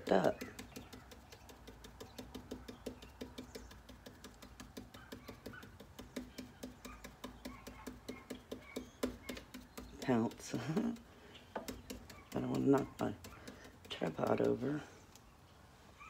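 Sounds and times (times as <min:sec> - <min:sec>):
stencil brush tapping: 0:00.0 - 0:14.8.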